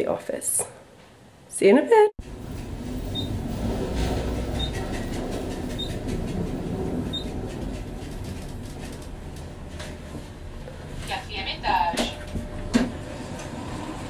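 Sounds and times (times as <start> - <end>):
elevator rumble and hum: 2.2 - 14.0.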